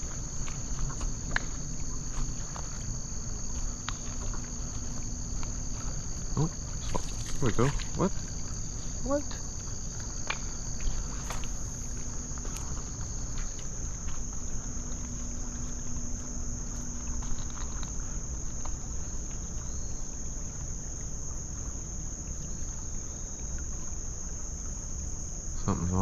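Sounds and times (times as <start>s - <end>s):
insects chirping in chorus: 0.0s - 26.0s.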